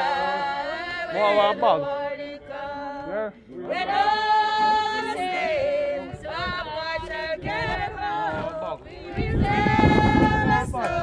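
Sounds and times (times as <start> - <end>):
congregation singing a hymn: 0.0 - 11.0.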